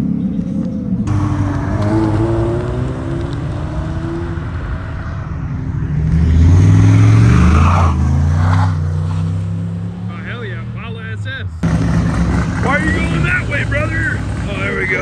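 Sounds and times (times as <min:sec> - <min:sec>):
cars passing at low speed: 0:00.0 - 0:15.0
car engine revving: 0:01.0 - 0:15.0.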